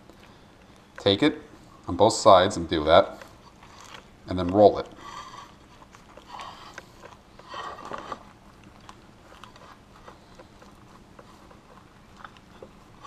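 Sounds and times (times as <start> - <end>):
burrito wrap rustling: 0.0 - 13.0.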